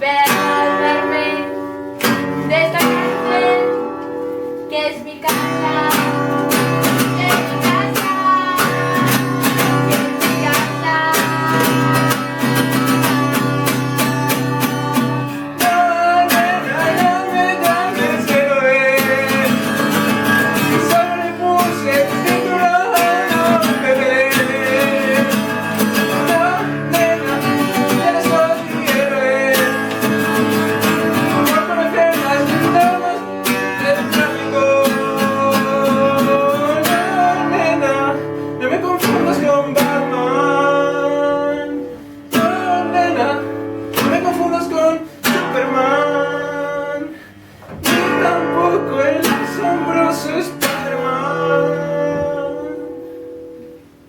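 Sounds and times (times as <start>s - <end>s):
acoustic guitar strummed and picked: 0.0s - 54.0s.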